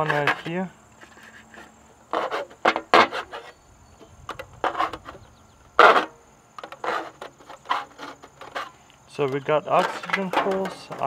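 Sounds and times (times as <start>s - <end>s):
knife scraping foil pan: 0.0s - 3.6s, 4.5s - 8.8s, 9.7s - 11.0s.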